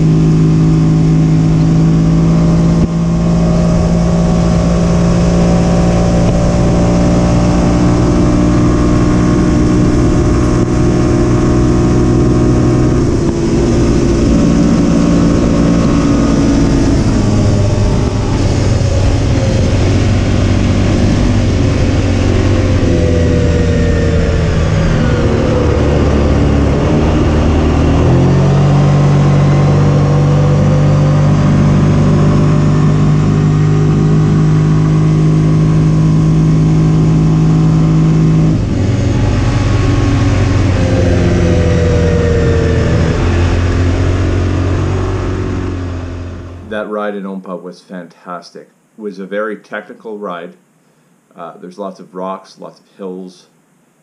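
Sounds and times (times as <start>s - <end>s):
single-cylinder engine running: 0.0s - 46.8s.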